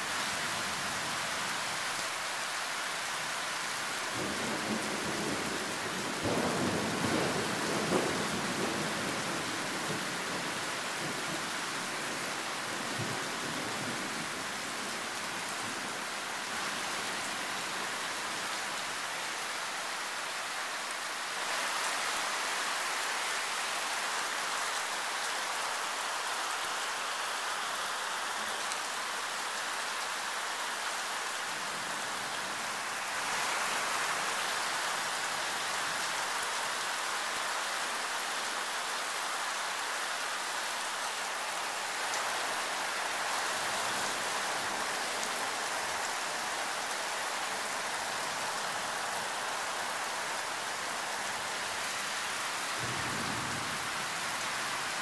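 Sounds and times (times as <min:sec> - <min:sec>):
heavy rain downpour: 0:00.0 - 0:55.0.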